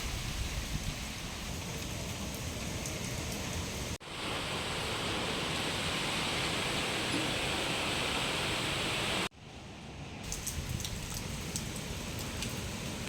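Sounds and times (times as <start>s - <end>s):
heavy rain hiss: 0.0s - 9.3s, 10.3s - 13.0s.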